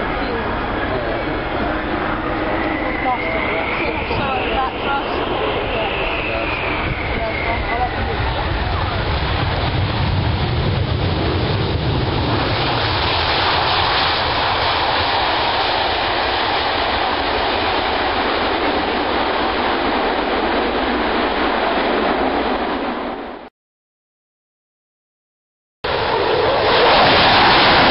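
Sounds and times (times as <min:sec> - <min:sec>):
jet engines roaring: 0:00.0 - 0:23.5, 0:25.8 - 0:27.9.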